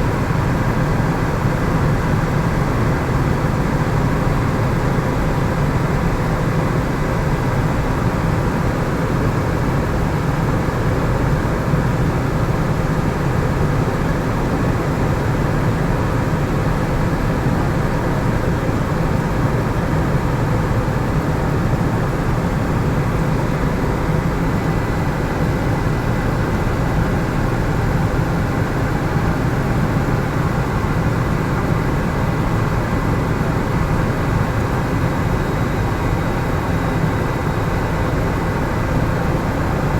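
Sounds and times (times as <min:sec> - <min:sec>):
faint steady whine: 0:00.0 - 0:39.9
helicopter engine and rotor drone: 0:00.0 - 0:39.9.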